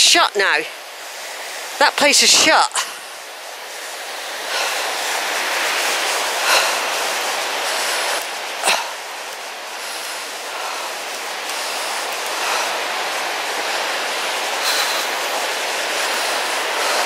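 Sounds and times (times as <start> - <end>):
river rushing over boulders: 0.0 - 17.0.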